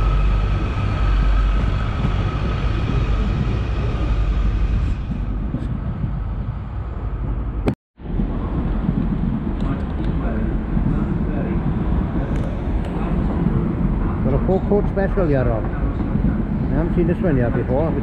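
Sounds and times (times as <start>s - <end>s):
another train rumbling: 0.0s - 18.0s
train rumble with high whine: 0.0s - 18.0s.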